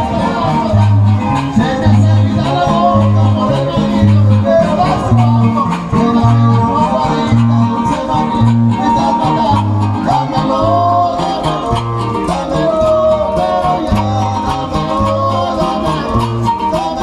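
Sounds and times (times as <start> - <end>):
bass guitar notes: 0.0 - 17.0
strummed guitars: 0.0 - 17.0.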